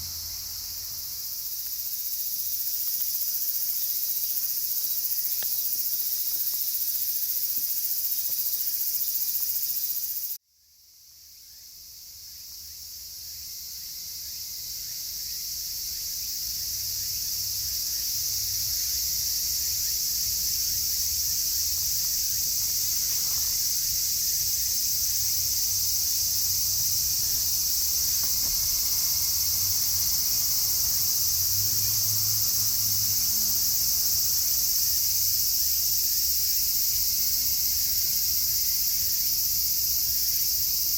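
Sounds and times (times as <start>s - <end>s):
cicadas singing: 0.0s - 10.4s, 11.1s - 40.9s.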